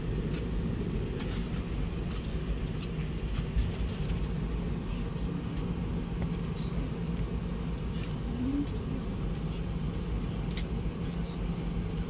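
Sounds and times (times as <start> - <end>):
jet engines idling rumble: 0.0 - 12.0.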